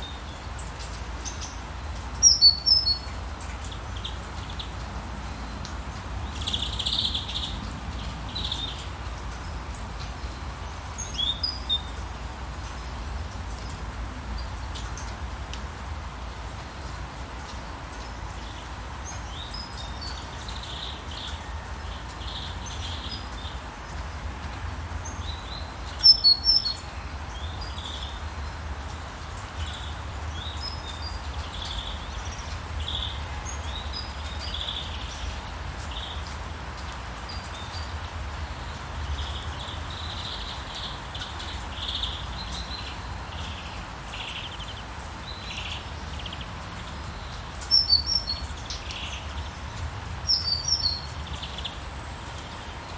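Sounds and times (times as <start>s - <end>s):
light rainfall hiss: 0.0s - 52.9s.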